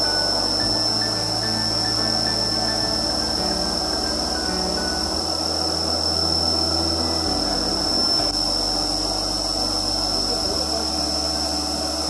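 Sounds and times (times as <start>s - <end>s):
background music: 0.0s - 12.0s
milling machine spindle whine: 0.0s - 12.0s.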